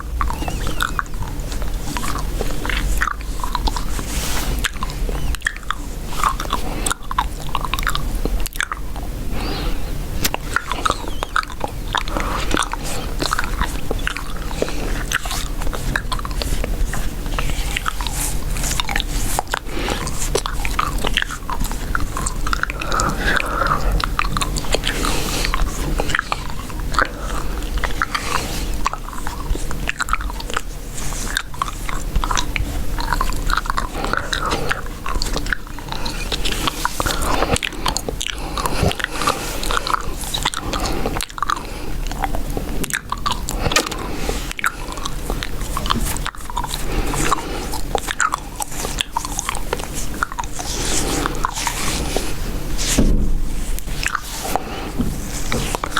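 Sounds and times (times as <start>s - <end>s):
mouth chewing gum: 0.0s - 55.9s.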